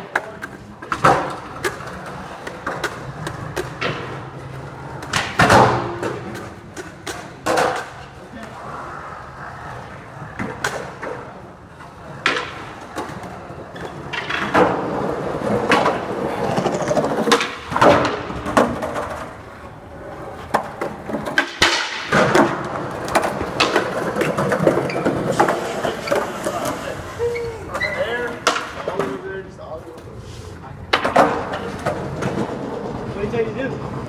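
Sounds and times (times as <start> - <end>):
skateboard clacking on ground: 0.0 - 34.0
skateboard wheels rolling: 0.0 - 34.0.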